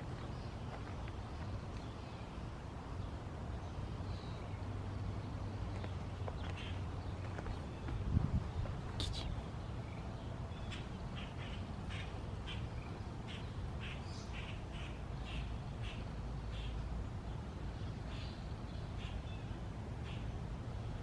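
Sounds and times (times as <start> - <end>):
bird chirping: 0.0 - 20.3
steady low rumble: 0.0 - 21.0.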